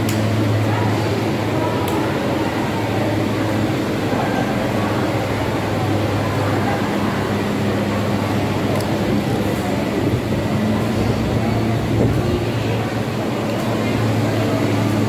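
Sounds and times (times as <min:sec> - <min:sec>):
background noise wash: 0:00.0 - 0:15.0
faint crowd chatter: 0:00.0 - 0:15.0
steady low hum: 0:00.0 - 0:15.0.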